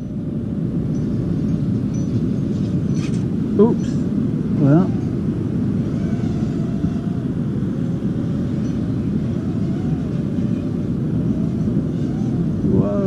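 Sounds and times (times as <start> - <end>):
faint thin wavering whine: 0.0 - 13.0
gusty wind on microphone: 0.0 - 13.0.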